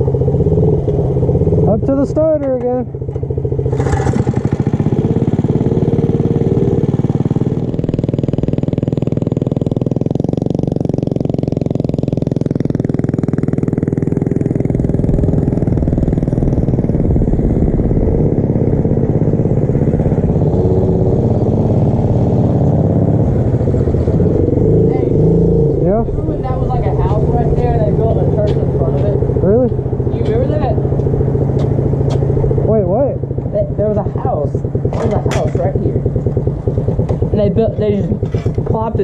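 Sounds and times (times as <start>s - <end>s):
mini bike engine running: 0.0s - 39.0s.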